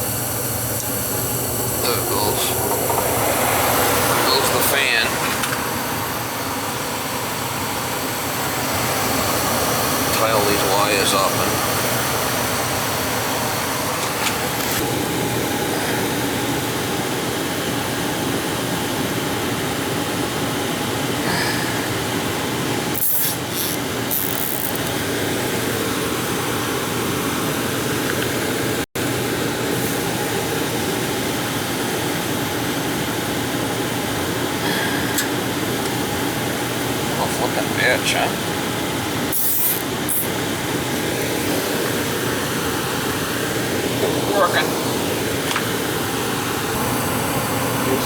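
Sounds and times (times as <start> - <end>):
furnace blower fan running: 0.0 - 48.0.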